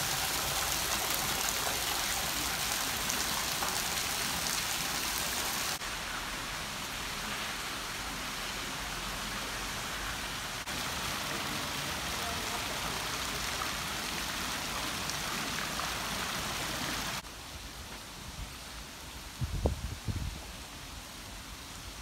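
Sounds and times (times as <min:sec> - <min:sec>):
falling water hiss: 0:00.0 - 0:22.0.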